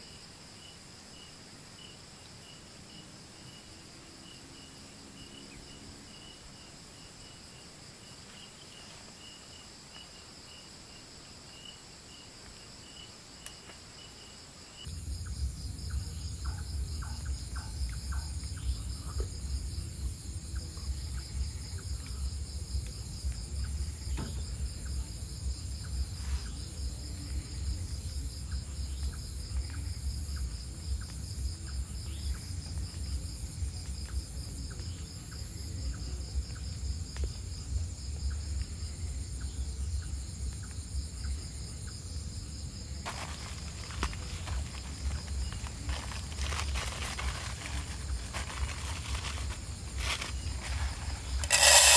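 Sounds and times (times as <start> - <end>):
crickets trilling: 0.0 - 51.9.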